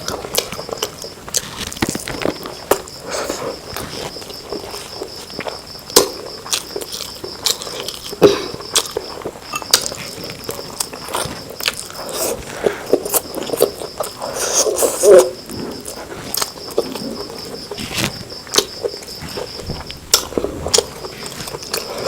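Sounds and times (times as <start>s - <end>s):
chewing and mouth smacks: 0.0s - 22.0s
high-pitched insect trill: 1.8s - 22.0s.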